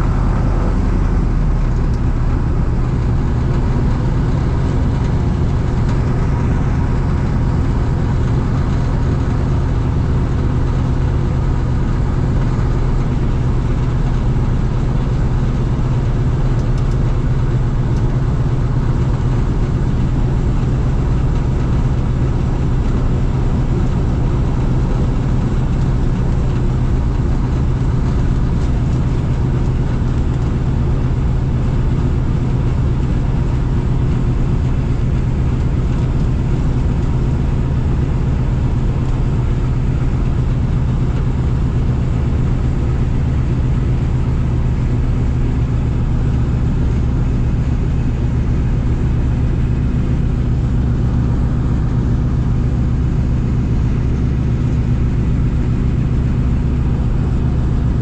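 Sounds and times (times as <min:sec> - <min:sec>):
propeller plane engines droning: 0:00.0 - 0:58.0.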